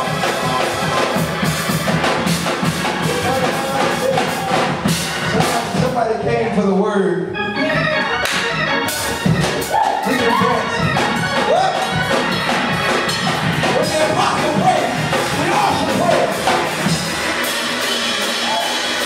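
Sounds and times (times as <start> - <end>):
drum kit with cymbals: 0.0 - 6.1, 8.8 - 19.0
electric organ gospel music: 0.0 - 19.0.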